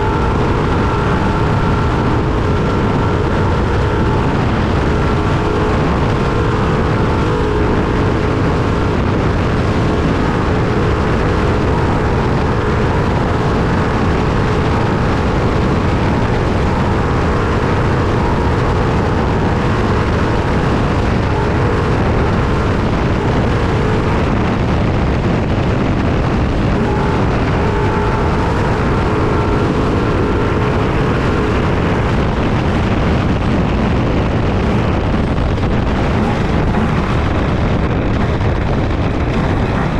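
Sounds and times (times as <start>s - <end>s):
chassis noise: 0.0s - 39.9s
truck engine: 0.0s - 39.9s
wind noise: 0.0s - 39.9s.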